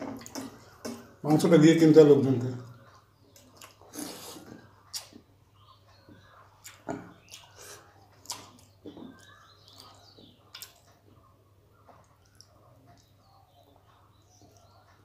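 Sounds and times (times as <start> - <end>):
chewing: 2.8 - 15.0
fingers squishing food: 2.9 - 15.0.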